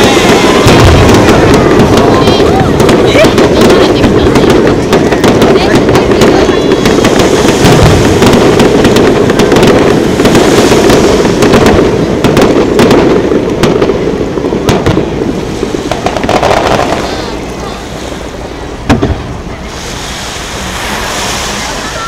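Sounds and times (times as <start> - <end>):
fireworks bangs and crackles: 0.0 - 22.0
steady low rumble: 0.0 - 22.0.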